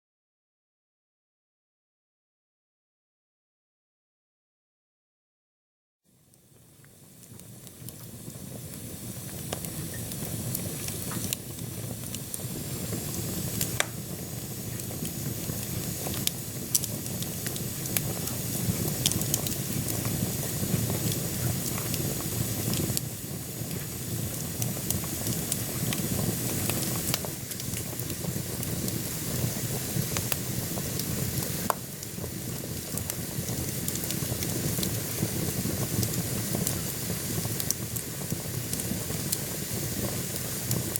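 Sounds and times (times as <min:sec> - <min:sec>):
burning logs crackling and popping: 0:06.8 - 0:40.9
rush of flames: 0:07.4 - 0:40.9.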